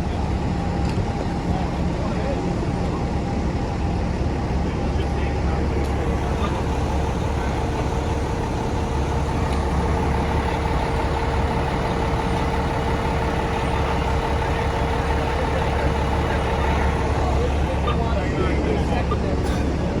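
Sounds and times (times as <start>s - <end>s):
constant hum: 0.0s - 20.0s
truck engine idling: 0.0s - 20.0s.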